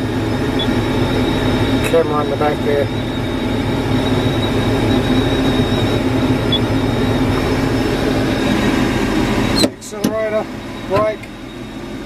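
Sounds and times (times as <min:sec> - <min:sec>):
diesel engine drone: 0:00.0 - 0:12.0
high whine: 0:00.0 - 0:12.0.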